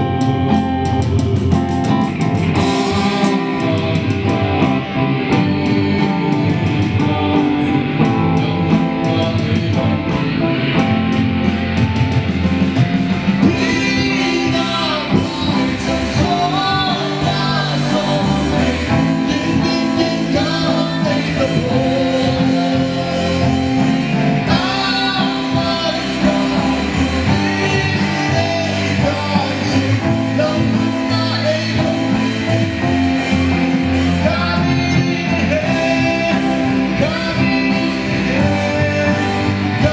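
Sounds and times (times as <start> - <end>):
guitar chords: 0.0 - 39.9
person singing: 0.0 - 39.9.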